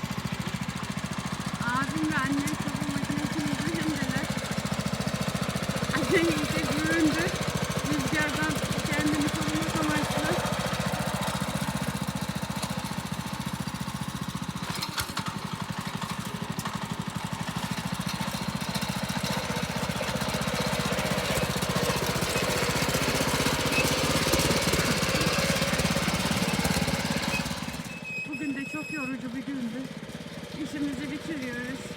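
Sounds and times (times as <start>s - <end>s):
garden tiller engine running: 0.0s - 31.9s.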